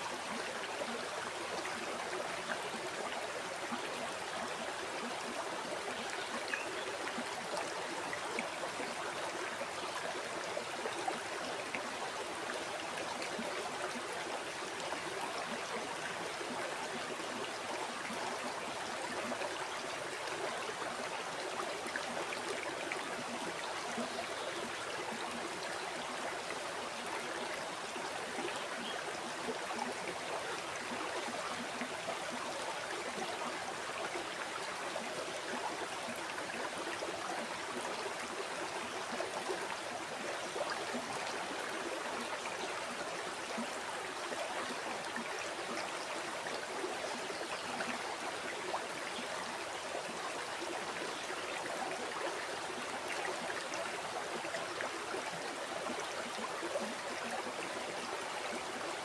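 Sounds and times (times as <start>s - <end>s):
stream water flowing over stones: 0.0s - 59.0s.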